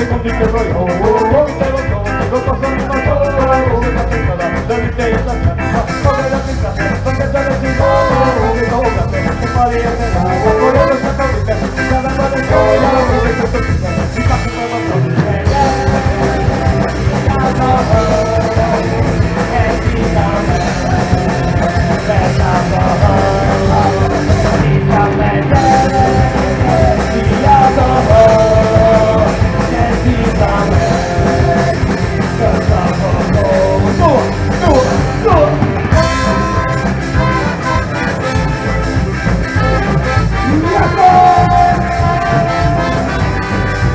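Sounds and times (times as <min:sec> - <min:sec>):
drum kit: 0:00.0 - 0:43.9
electric guitars: 0:00.0 - 0:43.9
person singing: 0:00.0 - 0:43.9.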